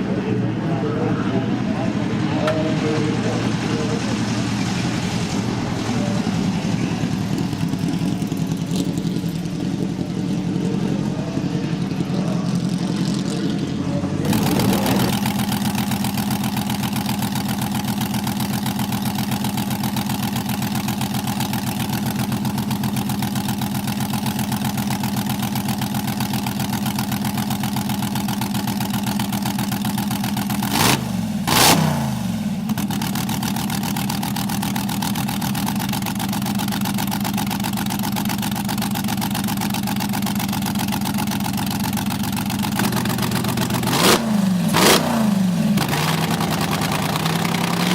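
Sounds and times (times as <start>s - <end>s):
engine blips: 0.0s - 47.9s
race car engine idling: 0.0s - 47.9s.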